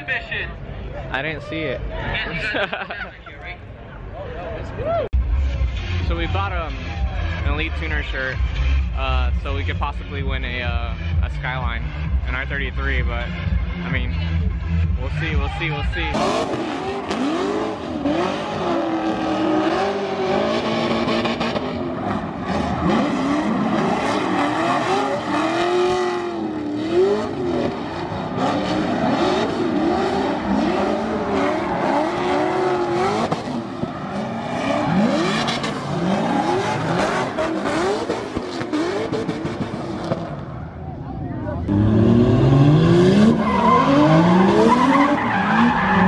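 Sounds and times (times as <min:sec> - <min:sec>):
car engines revving hard: 0:05.2 - 0:40.6, 0:41.6 - 0:46.0.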